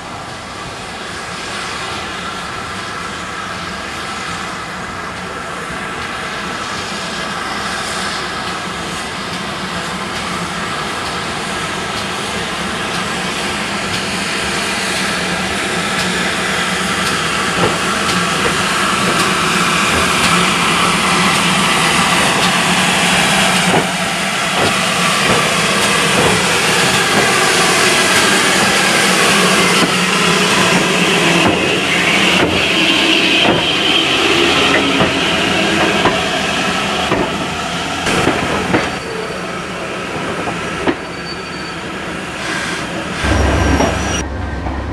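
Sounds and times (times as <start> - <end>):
steam locomotive running: 0.0 - 44.9
steam hissing: 0.1 - 44.2.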